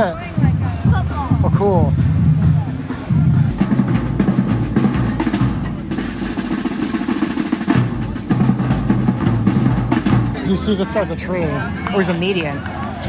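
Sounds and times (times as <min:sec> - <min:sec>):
bass drums: 0:00.0 - 0:13.0
rapid snare drum cadence: 0:00.4 - 0:13.0.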